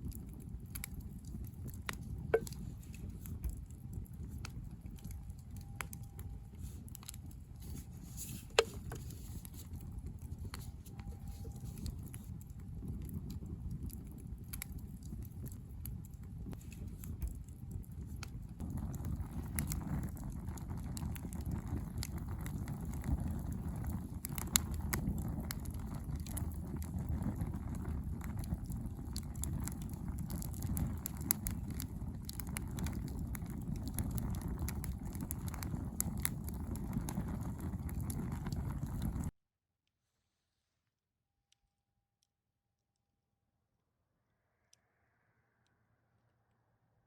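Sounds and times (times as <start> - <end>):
campfire crackling and popping: 0.0 - 39.4.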